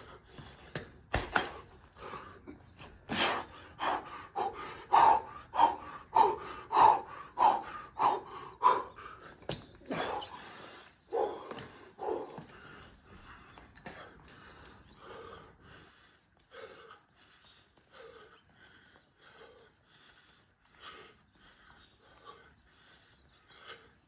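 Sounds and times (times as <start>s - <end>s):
man panting hard: 0.0s - 24.0s.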